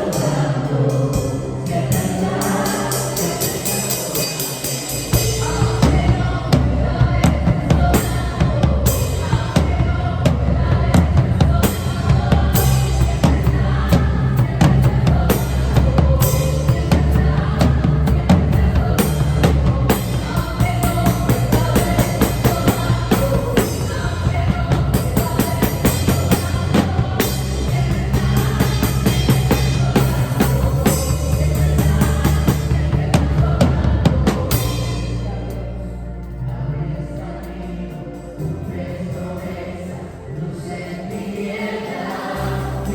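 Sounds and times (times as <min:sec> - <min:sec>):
drum kit playing: 0:00.0 - 0:35.6
backing music: 0:00.0 - 0:42.9.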